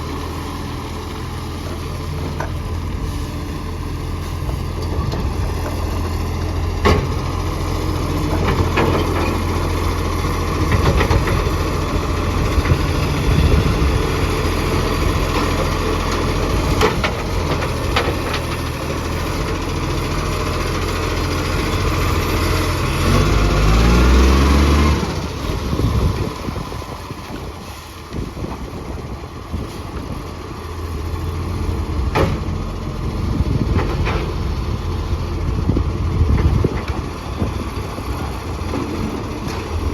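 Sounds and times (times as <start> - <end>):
truck engine with exhaust leak: 0.0 - 39.9.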